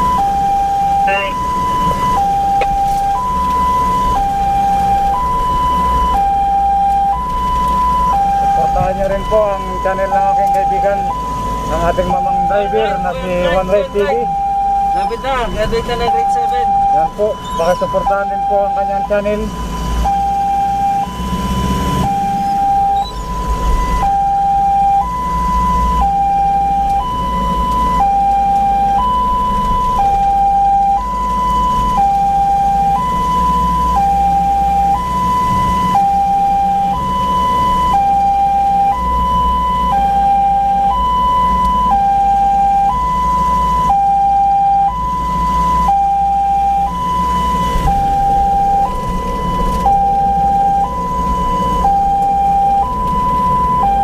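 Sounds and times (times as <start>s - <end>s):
ambulance two-tone siren: 0.0s - 54.0s
engine and road hum: 0.0s - 54.0s.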